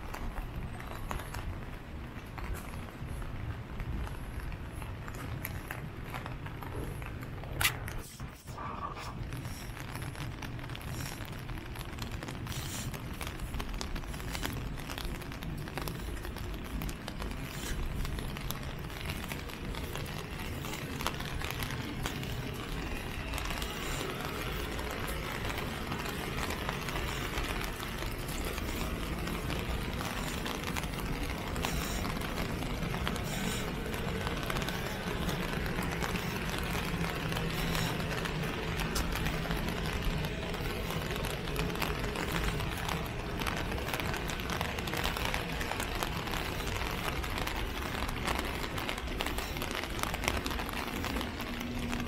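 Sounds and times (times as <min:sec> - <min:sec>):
low hum of traffic: 0:00.0 - 0:52.0
rain falling on wet street: 0:00.0 - 0:52.0.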